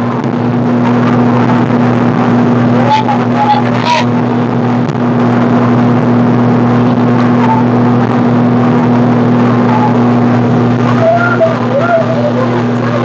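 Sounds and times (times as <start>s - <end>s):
motorboat engine droning: 0.0s - 13.0s
rushing water noise: 0.0s - 13.0s.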